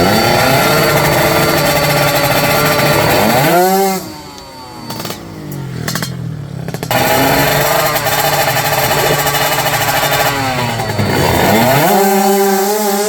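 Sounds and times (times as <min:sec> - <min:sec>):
engine crackles: 0:00.0 - 0:13.0
racing motorcycle engine revving: 0:00.0 - 0:13.0.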